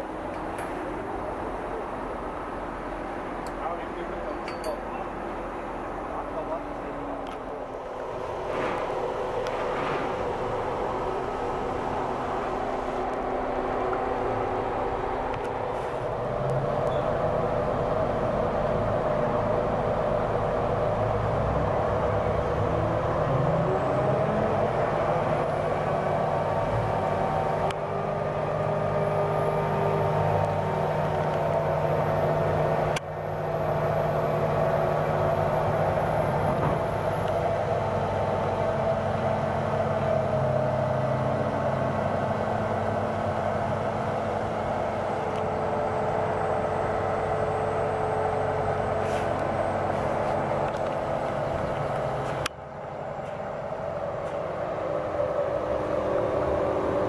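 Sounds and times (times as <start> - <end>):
crane engine droning: 0.0 - 57.0.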